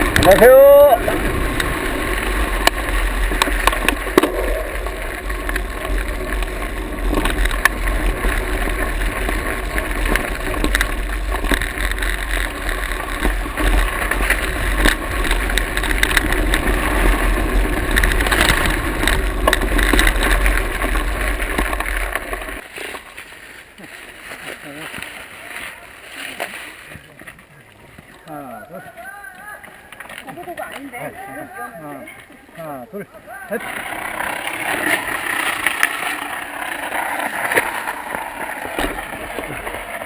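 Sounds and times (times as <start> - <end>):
bike clicking and rattling: 0.0 - 32.5, 33.1 - 40.0
bike tyres on dirt: 0.0 - 40.0.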